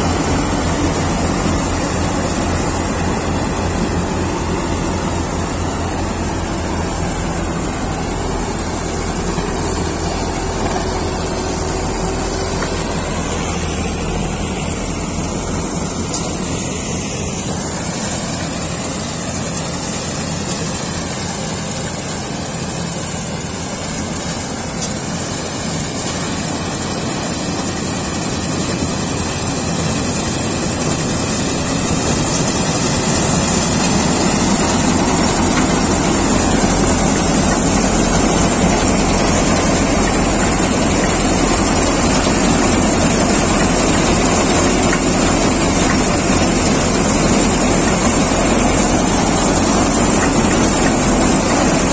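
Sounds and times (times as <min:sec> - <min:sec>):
combine harvester running: 0:00.0 - 0:51.9.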